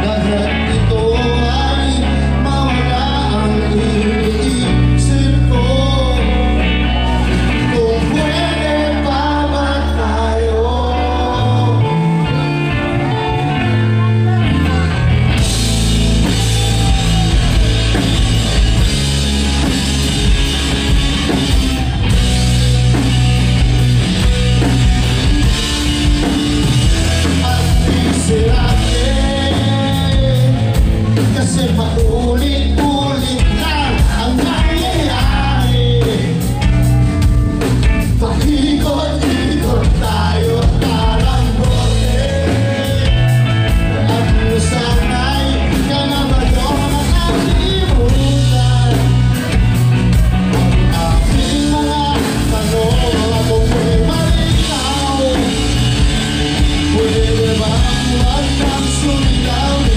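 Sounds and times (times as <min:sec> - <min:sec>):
lead vocal singing: 0:00.0 - 0:59.9
rock band playing live: 0:00.0 - 0:59.9.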